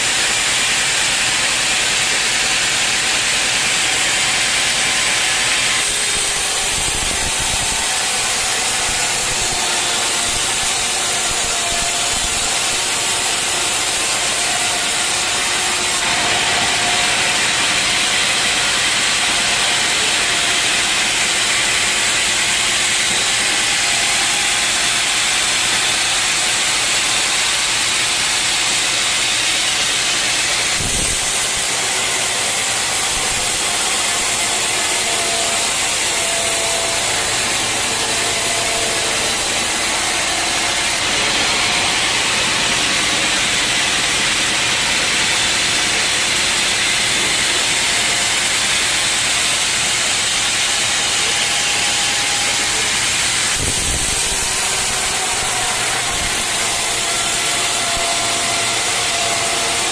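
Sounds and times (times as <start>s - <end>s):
saw cutting through log: 0.0s - 59.9s.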